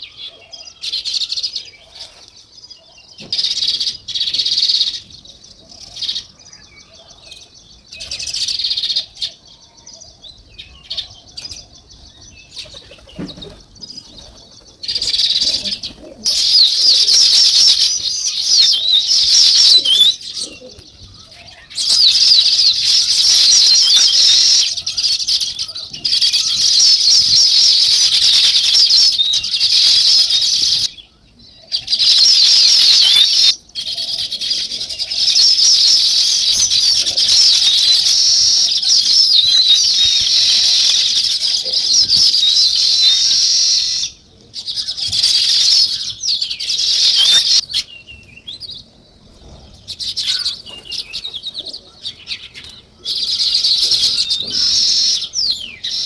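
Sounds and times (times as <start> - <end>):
flock of songbirds chirping: 0.0 - 56.0.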